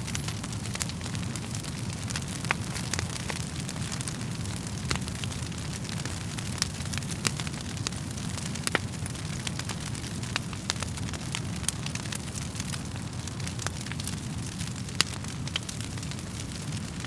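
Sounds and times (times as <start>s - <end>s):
burning wood crackling and popping: 0.0s - 17.0s
low rumble of flames: 0.0s - 17.0s.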